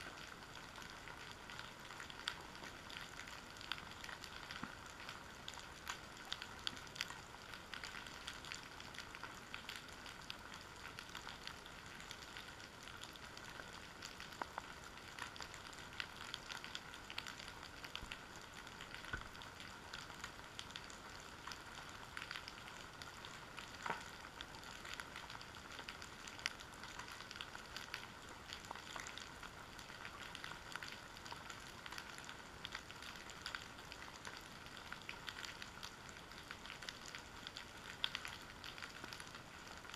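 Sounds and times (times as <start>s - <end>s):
clicks and crackles: 0.0s - 39.9s.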